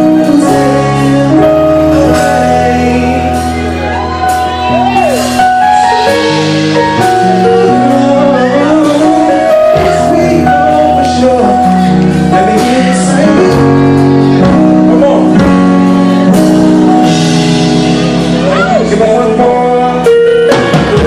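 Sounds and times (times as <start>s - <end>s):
man singing: 0.0s - 21.0s
music with chords and beat: 0.0s - 21.0s.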